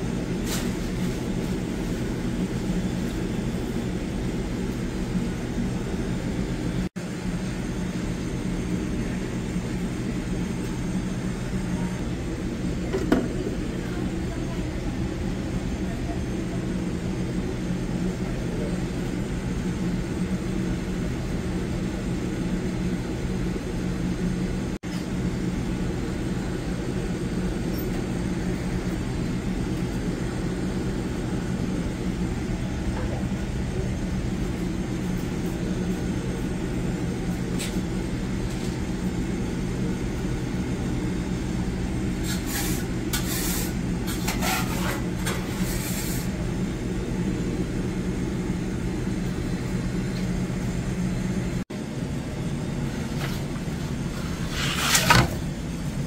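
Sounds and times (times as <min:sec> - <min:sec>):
kitchen machinery humming: 0:00.0 - 0:56.0.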